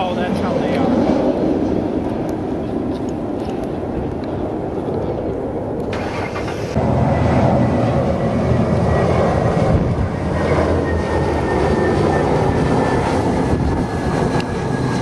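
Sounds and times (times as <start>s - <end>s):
jet airliner passing low: 0.0s - 15.0s.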